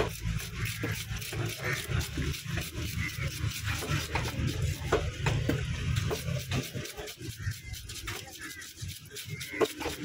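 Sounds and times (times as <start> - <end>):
knife scraping fish scales: 0.0 - 5.0, 5.9 - 10.0.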